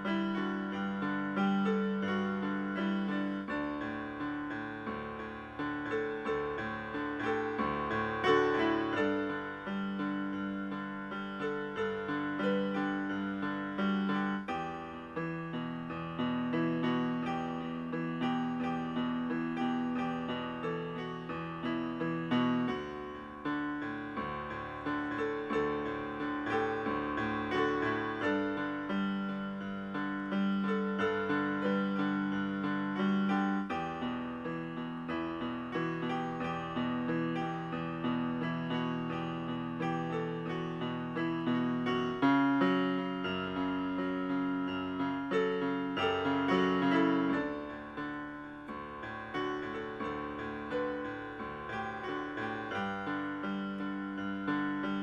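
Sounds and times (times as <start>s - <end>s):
solo piano music: 0.0s - 55.0s.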